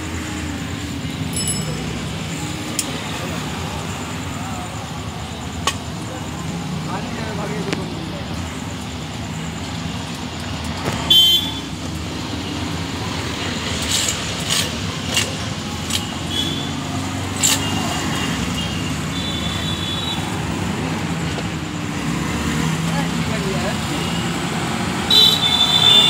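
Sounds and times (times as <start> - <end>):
motorcycle and traffic engines: 0.0 - 26.0.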